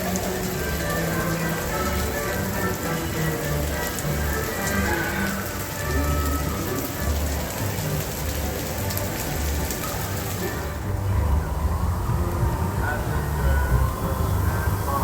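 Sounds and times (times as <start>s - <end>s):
faint music: 0.0s - 15.0s
steady rain falling: 0.0s - 15.0s.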